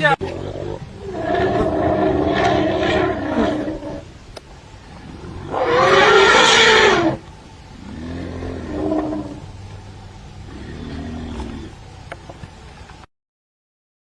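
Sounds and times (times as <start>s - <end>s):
elephants calling: 0.2s - 11.9s.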